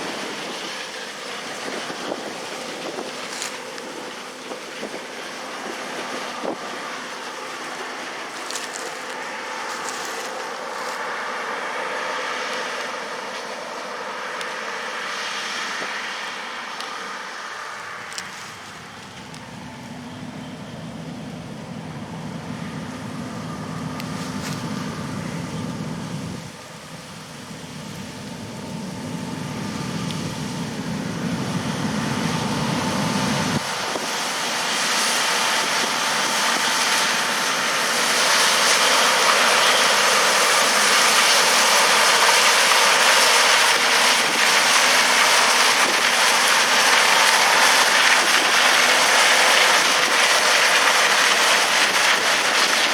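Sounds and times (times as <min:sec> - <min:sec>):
diesel engine drone: 0:00.0 - 0:52.9.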